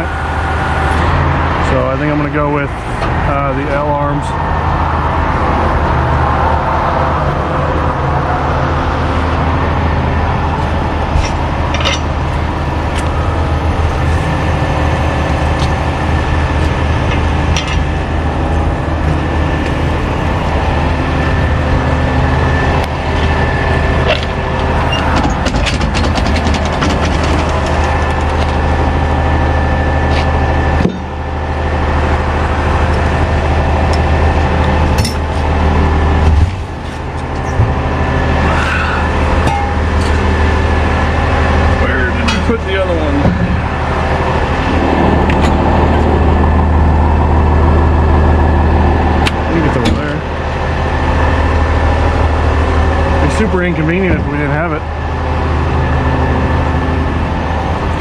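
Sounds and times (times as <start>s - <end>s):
truck engine running steadily: 0.0s - 58.0s.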